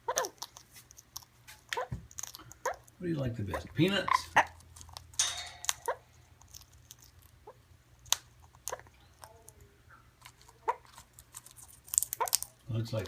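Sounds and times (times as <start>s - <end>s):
bird cracking and chewing seeds: 0.0s - 3.0s, 3.7s - 13.0s.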